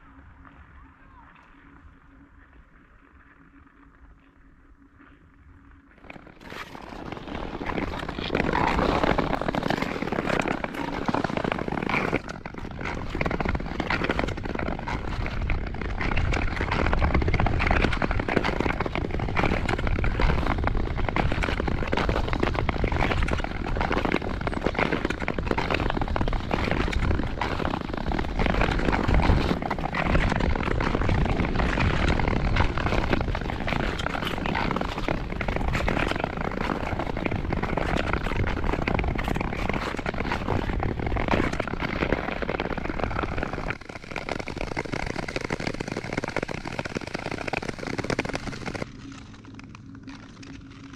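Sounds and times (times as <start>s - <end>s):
ice skates scraping on ice: 6.0s - 50.9s.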